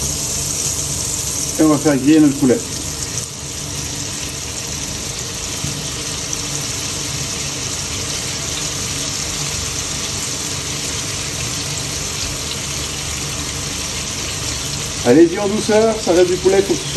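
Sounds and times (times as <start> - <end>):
chicken sizzling in frying pan: 0.0 - 16.9.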